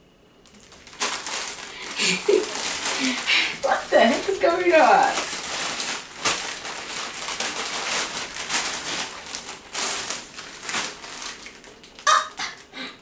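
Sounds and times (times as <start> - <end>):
plastic bag and packets crinkling: 0.4 - 13.0.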